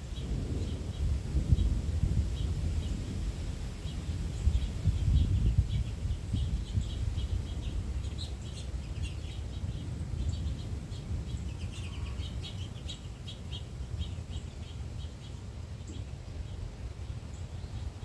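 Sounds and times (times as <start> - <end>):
small birds chirping: 0.0 - 18.0
wind buffeting microphone: 0.0 - 18.0.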